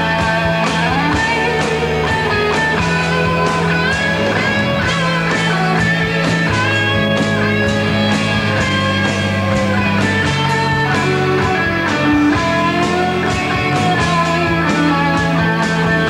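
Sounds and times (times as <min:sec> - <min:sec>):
electric guitar lead: 0:00.0 - 0:16.0
rock band instrumental: 0:00.0 - 0:16.0.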